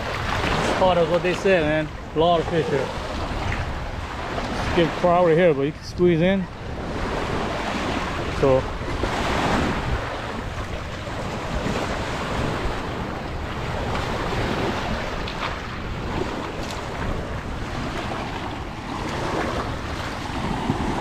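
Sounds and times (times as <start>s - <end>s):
waves on pebble beach: 0.0s - 21.0s
wind buffeting microphone: 0.0s - 21.0s.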